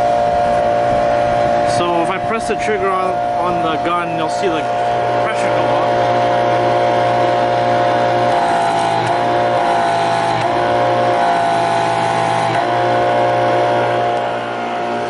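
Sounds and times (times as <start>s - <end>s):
electric pressure washer humming: 0.0s - 15.0s.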